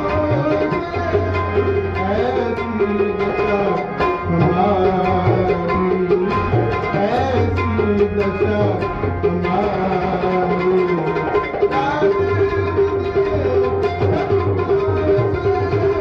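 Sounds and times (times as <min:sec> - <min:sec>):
tabla drumming: 0:00.0 - 0:16.0.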